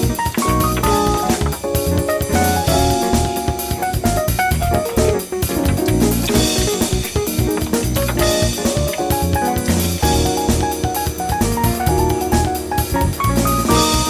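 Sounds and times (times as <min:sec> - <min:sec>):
drum kit steady beat: 0:00.0 - 0:14.0
instrumental music with melody: 0:00.0 - 0:14.0.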